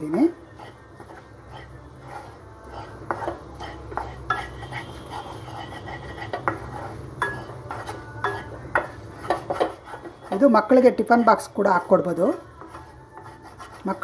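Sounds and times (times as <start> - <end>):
spatula scraping in a pan: 0.0 - 14.0.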